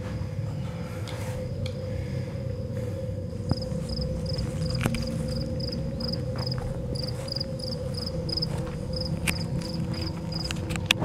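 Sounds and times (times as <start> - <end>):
cricket chirping: 0.0 - 11.0
low hum and rumble: 0.0 - 11.0.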